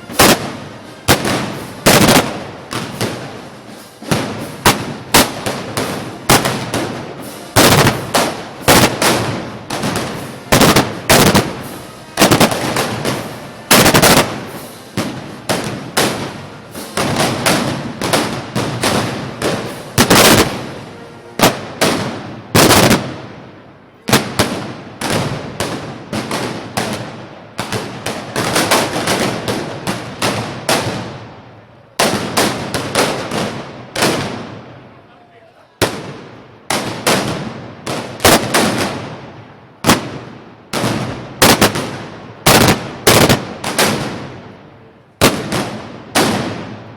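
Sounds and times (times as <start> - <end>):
guns firing with echo: 0.0 - 23.4, 24.1 - 31.4, 32.0 - 34.8, 35.8 - 44.6, 45.2 - 46.9.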